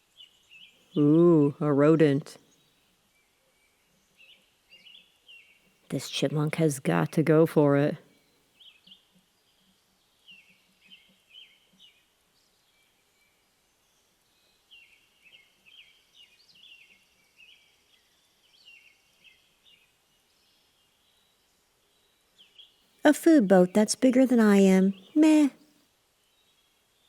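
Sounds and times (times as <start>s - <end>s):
songbirds chirping: 0.0s - 25.6s.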